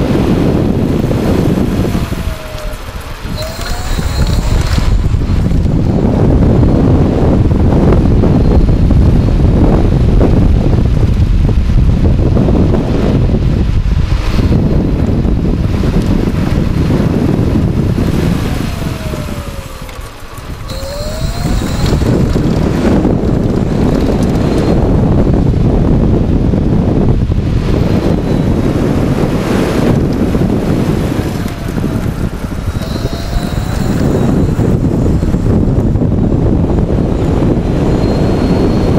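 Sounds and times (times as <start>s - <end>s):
electric motor whine: 0.0s - 11.0s, 14.0s - 25.9s, 27.3s - 38.9s
wind buffeting microphone: 0.0s - 38.9s.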